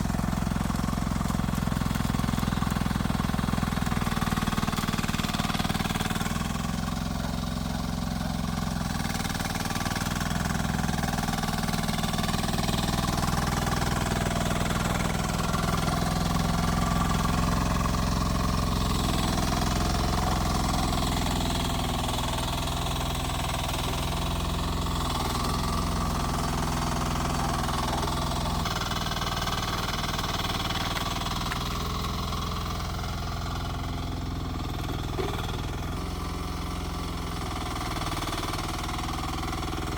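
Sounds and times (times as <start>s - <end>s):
mini excavator engine running: 0.0s - 39.9s.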